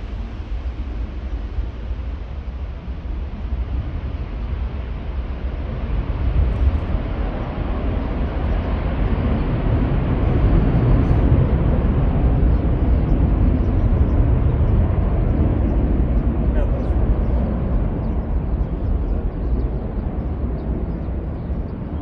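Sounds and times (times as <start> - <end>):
jet engine rumble: 0.0 - 22.0.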